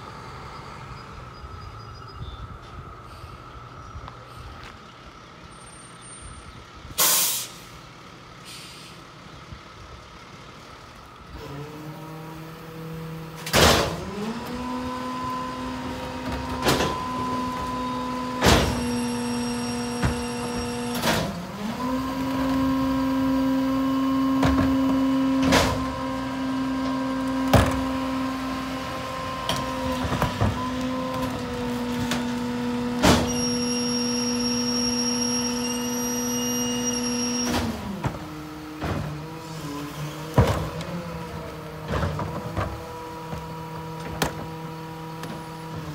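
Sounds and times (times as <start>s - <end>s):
garbage truck engine: 0.0s - 45.9s.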